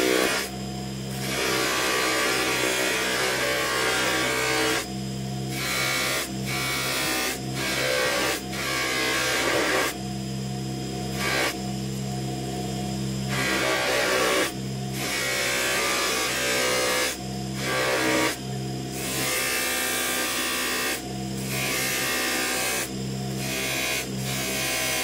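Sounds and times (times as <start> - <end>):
polishing motor hum: 0.0 - 25.0.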